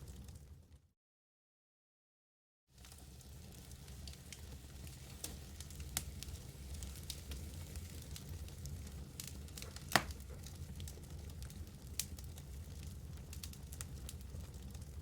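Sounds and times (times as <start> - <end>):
low rumble of flames: 0.0 - 0.8, 2.8 - 15.0
fire pops and snaps: 2.8 - 15.0.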